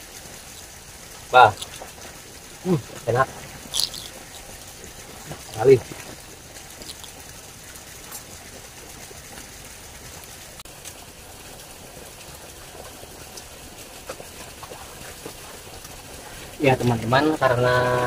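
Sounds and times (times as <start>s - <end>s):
water trickling over rocks: 0.0s - 18.0s.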